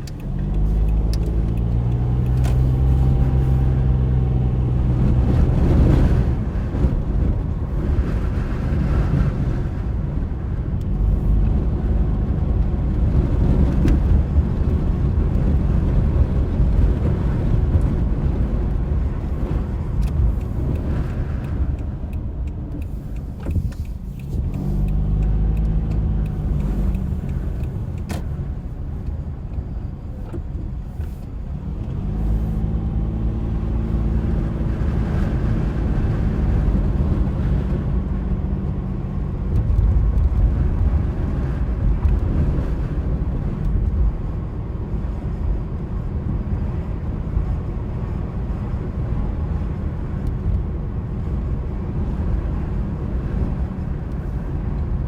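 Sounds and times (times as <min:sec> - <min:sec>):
road and wind rumble: 0:00.0 - 0:55.0.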